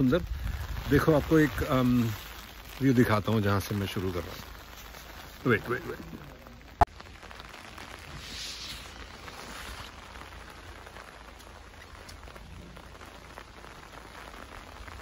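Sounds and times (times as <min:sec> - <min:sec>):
raindrop ticks: 0:00.0 - 0:08.1, 0:08.8 - 0:15.0
rain falling: 0:00.0 - 0:15.0.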